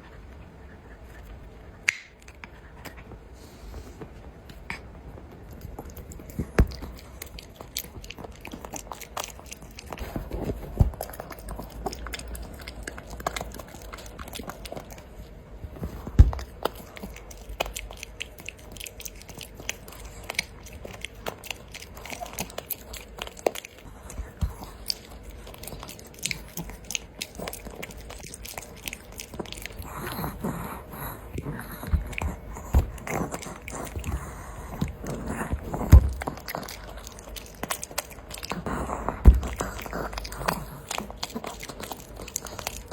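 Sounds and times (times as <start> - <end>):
dog chewing crunchy treat: 5.4 - 42.9.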